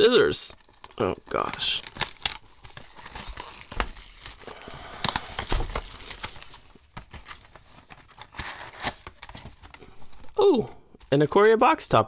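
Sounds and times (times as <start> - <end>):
plastic shrink wrap tearing: 0.0 - 10.4.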